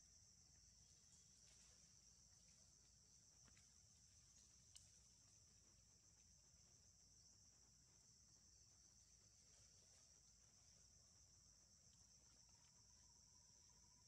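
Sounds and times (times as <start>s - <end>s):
faint high-pitched insect chorus: 0.0s - 14.0s.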